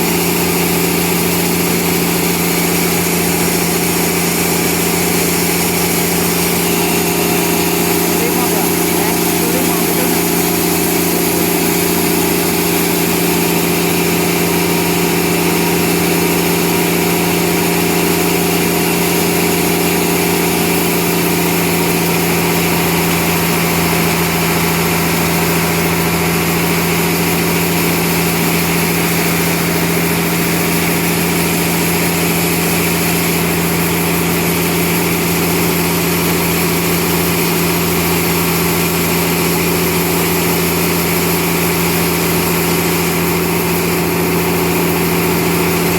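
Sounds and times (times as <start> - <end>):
sawmill machinery humming: 0.0 - 45.9.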